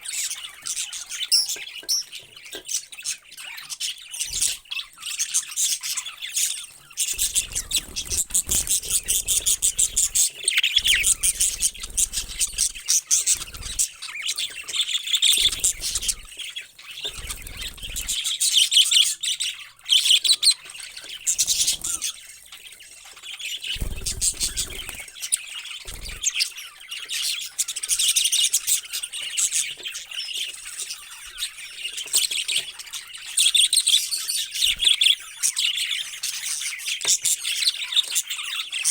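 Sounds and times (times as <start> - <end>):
parrots chirping: 0.0 - 38.9.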